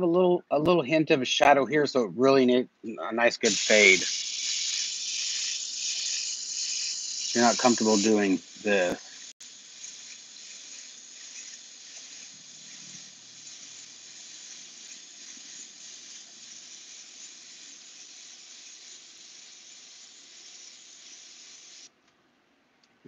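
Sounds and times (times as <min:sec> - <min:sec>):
airbrush spraying compressed air: 0:03.4 - 0:21.9.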